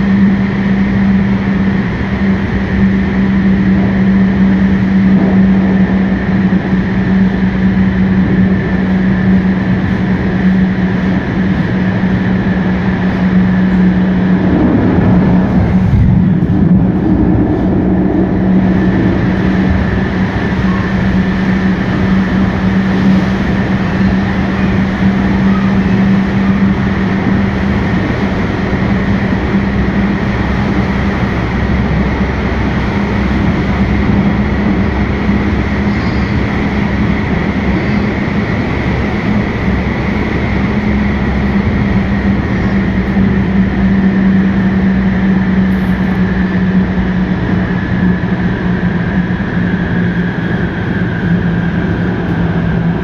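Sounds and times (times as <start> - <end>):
low hum: 0.0 - 53.0
traction motor whine: 0.0 - 53.0
wheels on rails running noise: 0.0 - 53.0.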